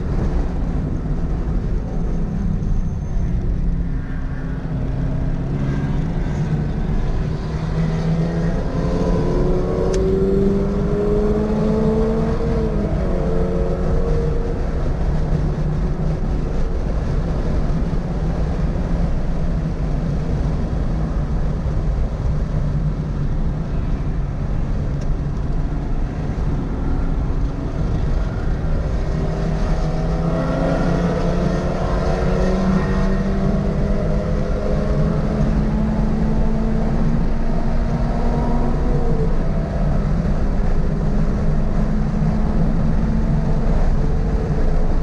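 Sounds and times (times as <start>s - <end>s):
road and wind noise: 0.0s - 45.0s
car engine revving: 4.8s - 22.1s, 24.7s - 45.0s.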